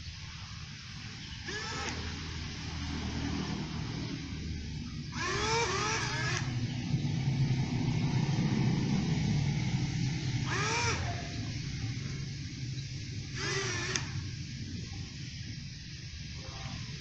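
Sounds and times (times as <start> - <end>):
small electric motors buzzing: 0.3 - 17.0.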